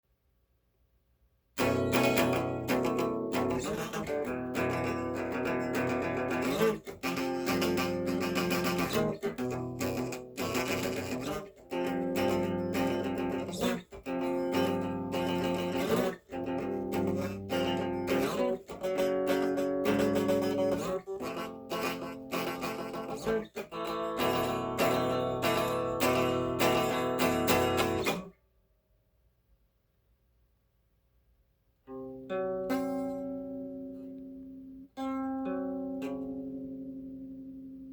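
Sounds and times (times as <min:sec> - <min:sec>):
guitar chords: 0:01.6 - 0:28.4, 0:31.9 - 0:37.9.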